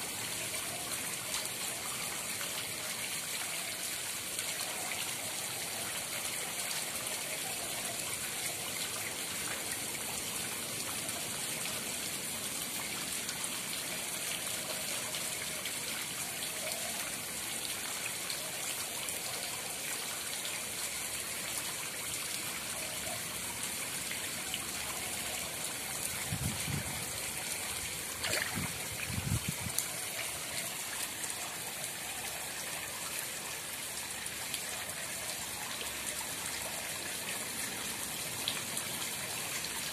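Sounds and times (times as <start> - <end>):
pond water trickling: 0.0 - 39.9.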